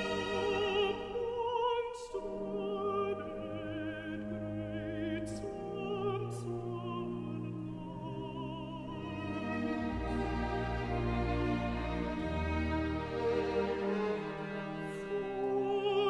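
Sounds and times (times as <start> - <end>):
alto singing with vibrato: 0.0 - 16.0
sustained string accompaniment: 0.0 - 16.0.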